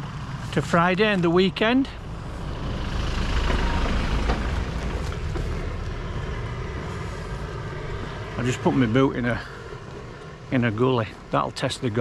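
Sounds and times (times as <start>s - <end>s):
pickup truck driving past: 2.0s - 12.0s.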